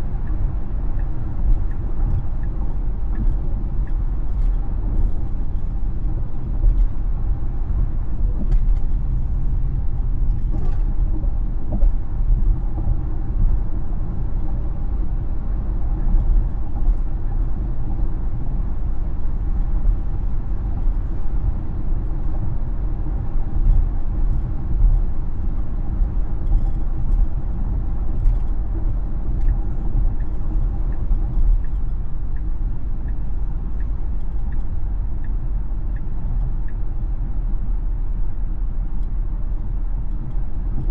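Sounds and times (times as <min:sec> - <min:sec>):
tyre and road rumble in car: 0:00.0 - 0:40.9.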